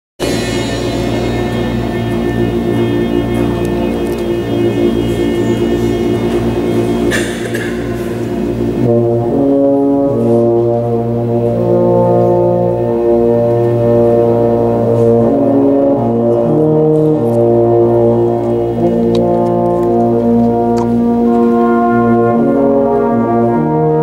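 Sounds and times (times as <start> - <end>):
brass band playing held chords: 0.2 - 24.0.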